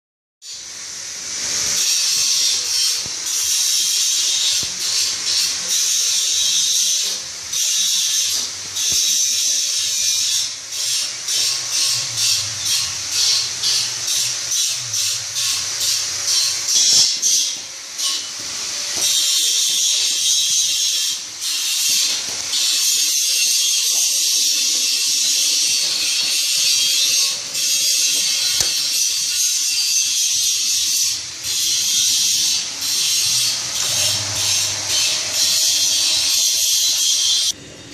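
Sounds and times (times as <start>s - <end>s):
cutting machine hissing: 0.4s - 37.6s.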